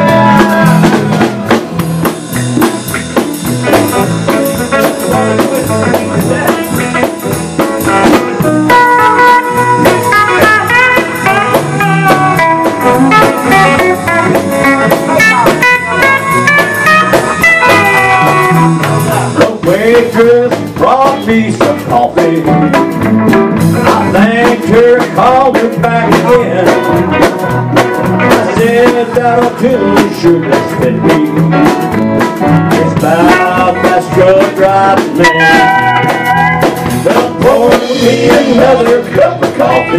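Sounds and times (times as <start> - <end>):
drum kit: 0.0 - 39.9
lead melody with bending notes: 0.0 - 39.9
live country band playing: 0.0 - 39.9.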